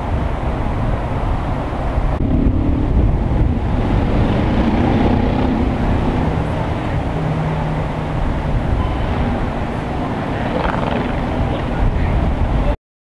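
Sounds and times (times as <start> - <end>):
street traffic rumble: 0.0 - 12.8
wind buffeting microphone: 0.0 - 12.8
faint engine hum: 0.1 - 12.8.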